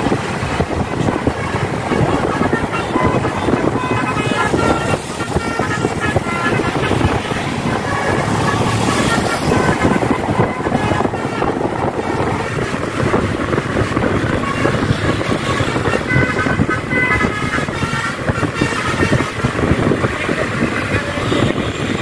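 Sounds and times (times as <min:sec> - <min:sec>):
traffic noise: 0:00.0 - 0:22.0
wind buffeting microphone: 0:00.0 - 0:22.0.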